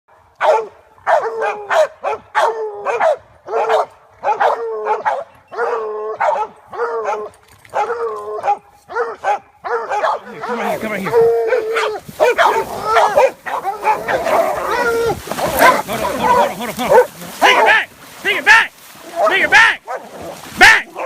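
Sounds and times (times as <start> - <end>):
dogs barking: 0.3 - 21.0.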